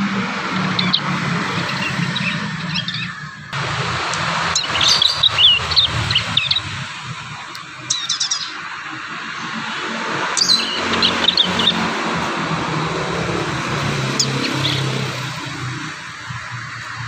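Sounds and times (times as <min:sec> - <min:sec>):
birds chirping and twittering: 0:00.0 - 0:17.0.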